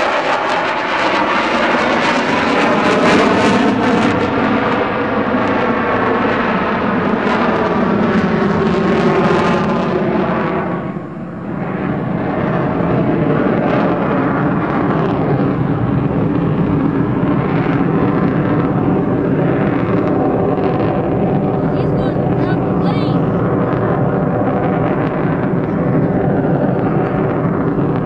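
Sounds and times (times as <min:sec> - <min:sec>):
fighter jet roaring overhead: 0:00.0 - 0:28.0.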